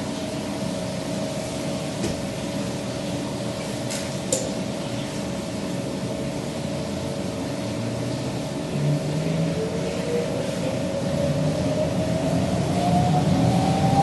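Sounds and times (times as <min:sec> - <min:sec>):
ventilation fans rushing air: 0:00.0 - 0:14.0.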